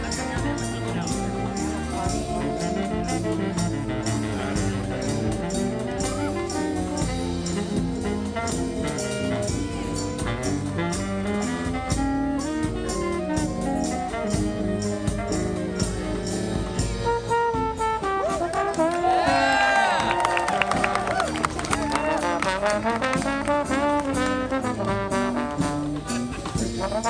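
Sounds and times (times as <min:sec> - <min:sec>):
brass horns playing melody: 0:00.0 - 0:27.0
steady drum beat: 0:00.0 - 0:27.0.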